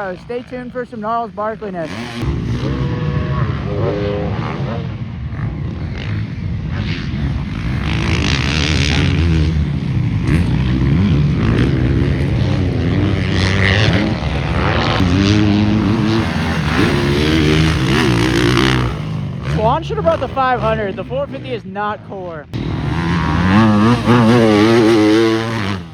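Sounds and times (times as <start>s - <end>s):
motocross bike engines revving: 0.0s - 25.9s.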